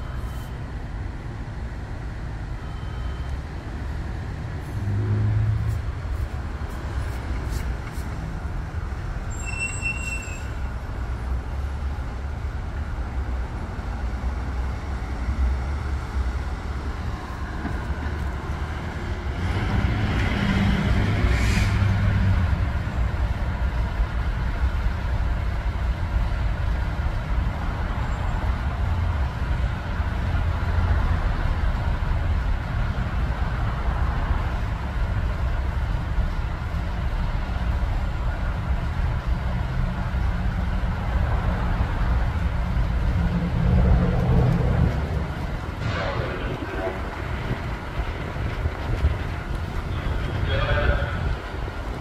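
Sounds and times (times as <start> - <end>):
diesel engine rumbling: 0.0 - 52.0
road traffic noise: 0.0 - 52.0.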